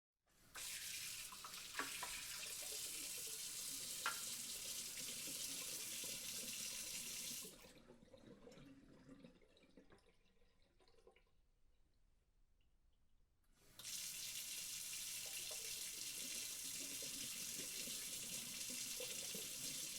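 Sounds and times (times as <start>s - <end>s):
tap water running into sink: 0.5s - 11.2s, 13.8s - 19.9s
water trickling and dripping: 0.6s - 11.4s, 13.8s - 19.9s.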